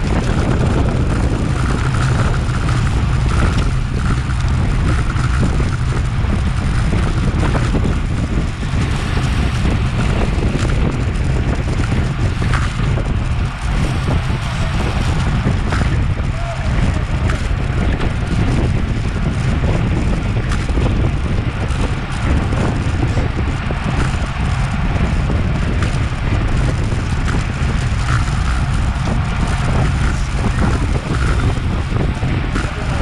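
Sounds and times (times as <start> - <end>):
wind buffeting on microphone: 0.0 - 33.0.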